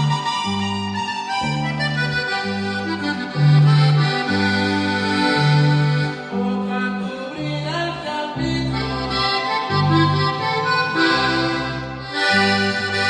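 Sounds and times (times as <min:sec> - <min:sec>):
accordion melody: 0:00.0 - 0:07.3, 0:07.9 - 0:13.0
electric bass notes: 0:00.0 - 0:13.0.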